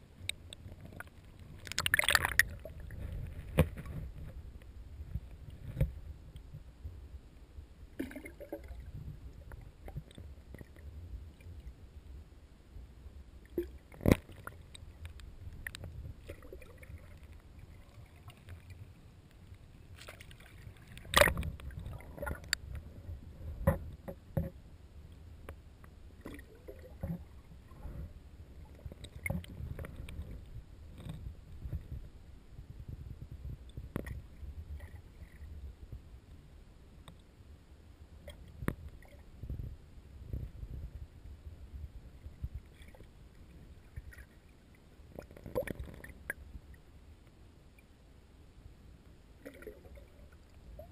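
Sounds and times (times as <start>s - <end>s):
muffled underwater rumble: 0.0s - 50.9s.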